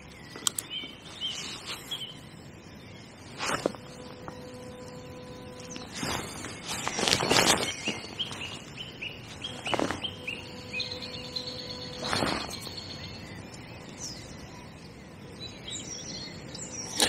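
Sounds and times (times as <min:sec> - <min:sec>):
high bird chirps: 0:00.0 - 0:17.0
songbird singing: 0:00.0 - 0:17.0.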